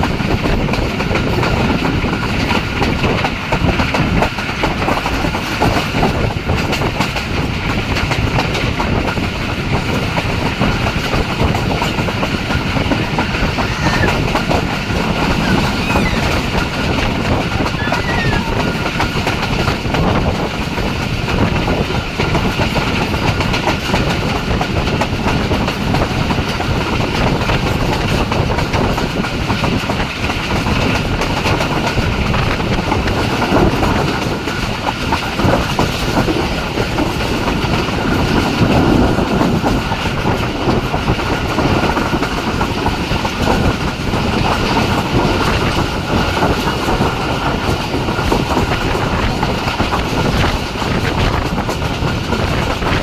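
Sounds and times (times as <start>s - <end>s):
clickety-clack over rail joints: 0.0s - 53.0s
train wheels rumbling on track: 0.0s - 53.0s.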